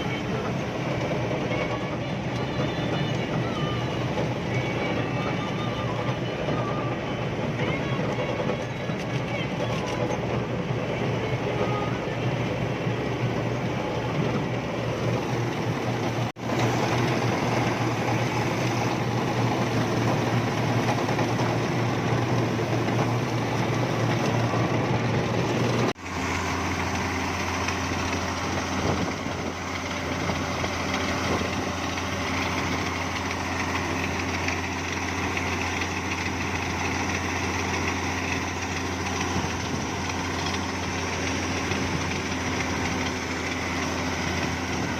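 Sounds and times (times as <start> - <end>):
harvesting machine engine running: 0.0 - 44.9.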